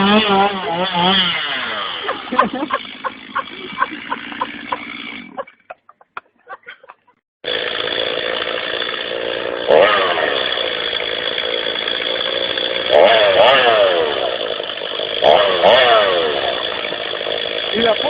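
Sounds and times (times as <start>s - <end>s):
chainsaw-like engine idling and revving: 0.0s - 6.0s, 6.6s - 18.0s.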